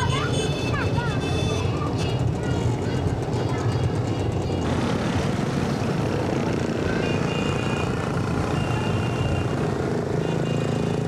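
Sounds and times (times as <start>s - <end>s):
motorbike engines in traffic: 0.0s - 11.0s.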